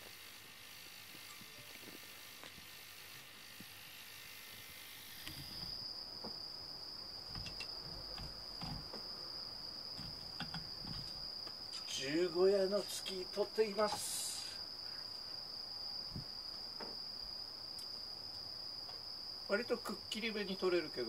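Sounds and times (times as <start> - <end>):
crickets chirping: 0.0 - 21.0
faint hiss: 0.0 - 21.0.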